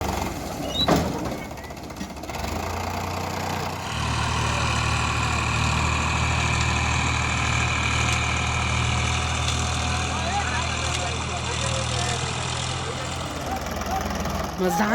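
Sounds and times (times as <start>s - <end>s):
tractor diesel engine idling: 0.0s - 14.9s.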